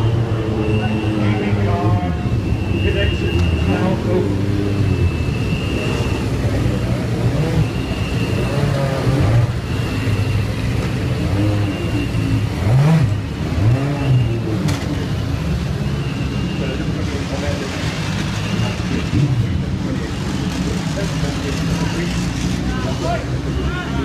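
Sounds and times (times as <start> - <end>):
engine revving: 0.0 - 23.0.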